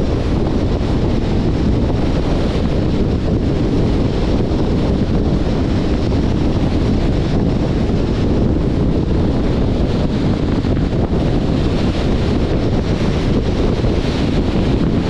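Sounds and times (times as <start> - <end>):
car road noise: 0.0 - 15.0
wind rushing over microphone: 0.0 - 15.0.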